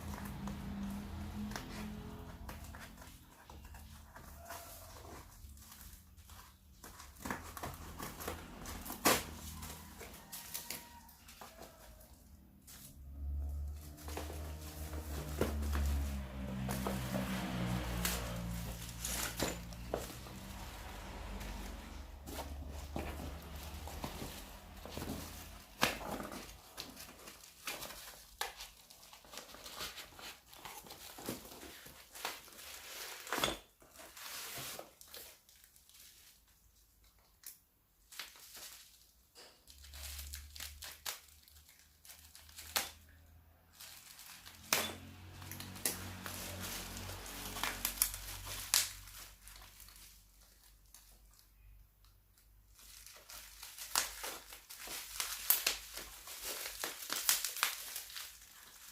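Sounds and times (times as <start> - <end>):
plastic packaging crinkling and tearing: 0.0 - 58.9.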